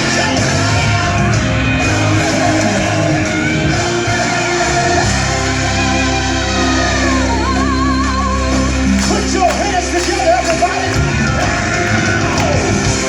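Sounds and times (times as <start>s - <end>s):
band backing with bass: 0.0s - 13.0s.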